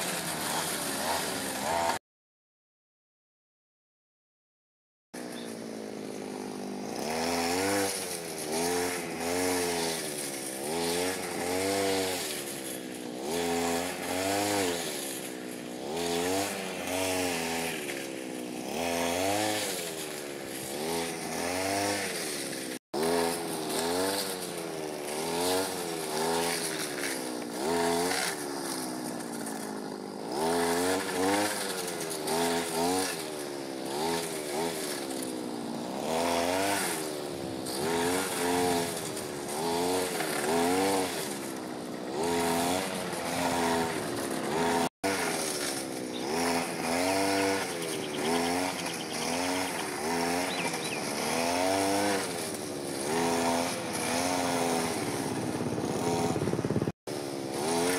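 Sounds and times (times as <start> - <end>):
brush cutter engine revving: 0.0 - 2.0, 5.2 - 57.9.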